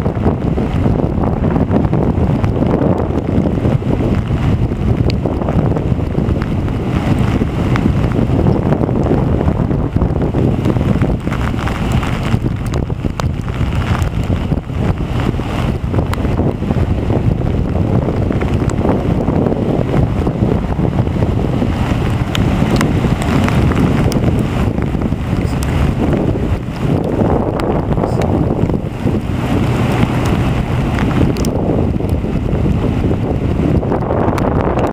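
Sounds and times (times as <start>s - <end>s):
surf breaking on beach: 0.0s - 34.9s
wind buffeting microphone: 0.0s - 34.9s.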